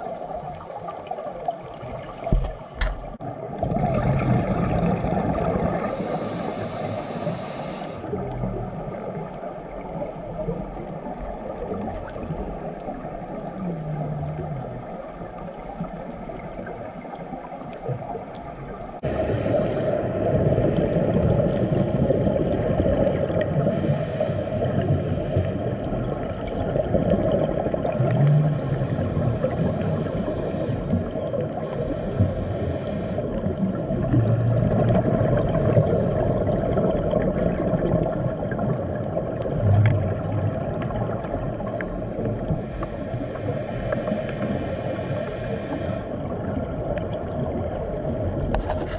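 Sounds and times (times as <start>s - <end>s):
muffled underwater rumble: 0.0s - 48.9s
scuba regulator bubbling: 0.0s - 48.9s.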